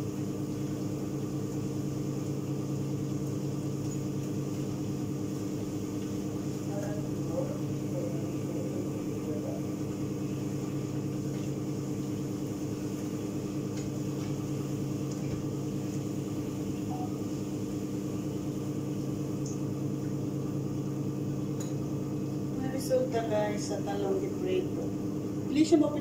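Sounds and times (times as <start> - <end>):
exhaust fan motor hum: 0.0 - 26.0.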